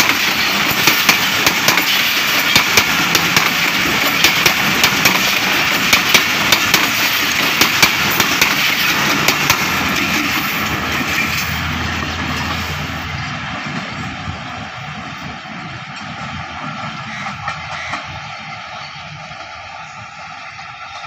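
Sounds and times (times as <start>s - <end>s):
train rumble: 0.0s - 21.0s
train wheels clacking on rails: 0.0s - 21.0s.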